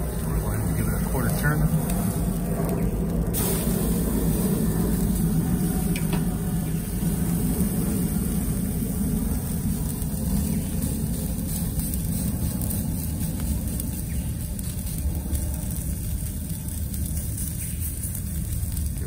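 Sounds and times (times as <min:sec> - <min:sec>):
gas burner flame rushing: 0:00.0 - 0:19.0
steaks sizzling on a grate: 0:00.0 - 0:19.0.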